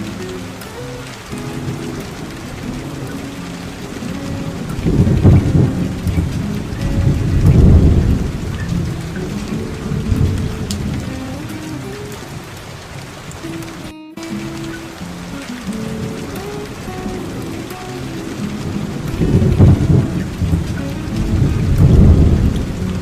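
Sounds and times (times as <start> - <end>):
soft guitar melody: 0.0 - 23.0
steady rain: 0.0 - 23.0
thunder rolling: 1.3 - 13.5, 15.4 - 23.0.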